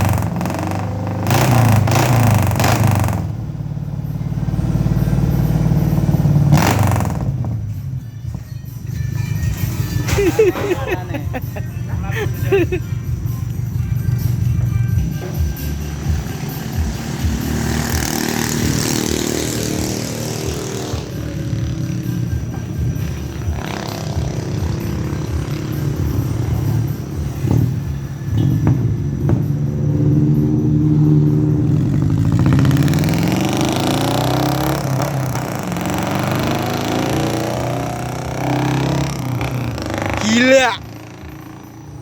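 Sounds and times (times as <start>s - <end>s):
pickup engine idling and revving: 0.0s - 42.0s.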